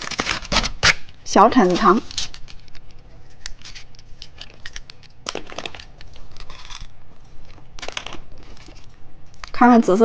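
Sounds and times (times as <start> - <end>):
plastic wrapper crinkling and tearing: 0.0 - 9.6.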